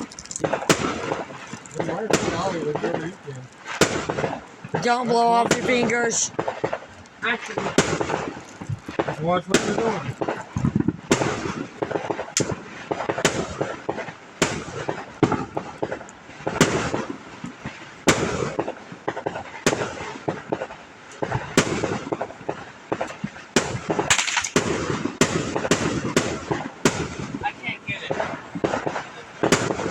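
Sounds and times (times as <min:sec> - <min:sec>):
fireworks bangs: 0:00.0 - 0:29.9
fireworks crackling and hissing: 0:00.0 - 0:29.9.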